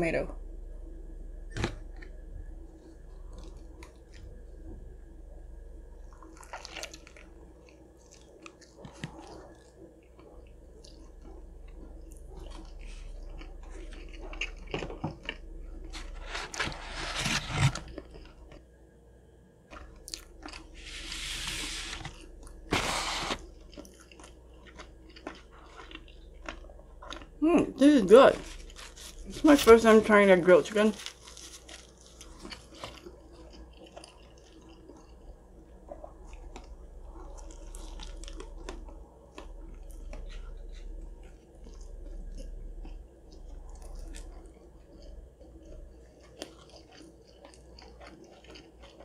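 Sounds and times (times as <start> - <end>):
biting and chewing sandwich: 6.0 - 18.6, 19.7 - 27.4, 28.4 - 29.6, 31.0 - 49.0.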